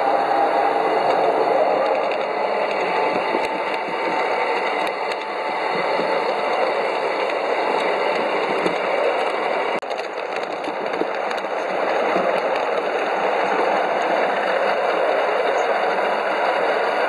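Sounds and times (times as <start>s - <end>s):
model locomotive whirring on rails: 0.0s - 17.0s.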